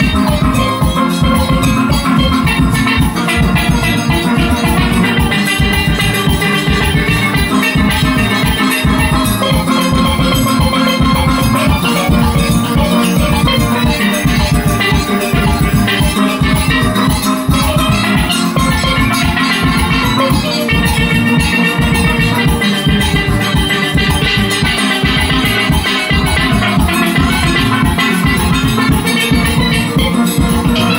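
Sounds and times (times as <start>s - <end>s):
drum and percussion beat: 0.0s - 30.9s
steel pans playing melody: 0.0s - 30.9s.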